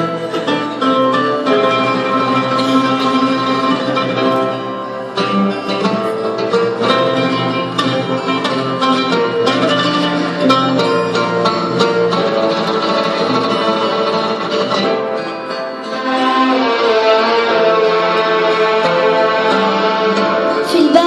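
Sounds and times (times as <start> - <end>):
plucked string instrumental music: 0.0 - 21.0.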